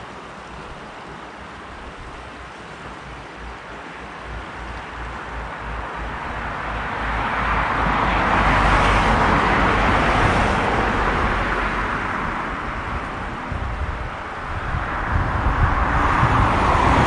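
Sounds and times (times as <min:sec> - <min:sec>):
road vehicle passing: 0:02.2 - 0:17.0.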